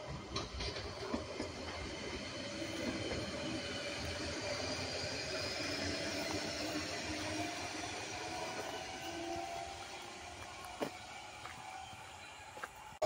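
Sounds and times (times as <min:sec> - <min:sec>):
faint train whine: 0:00.0 - 0:13.0
train wheels rumbling on rail: 0:00.0 - 0:13.0.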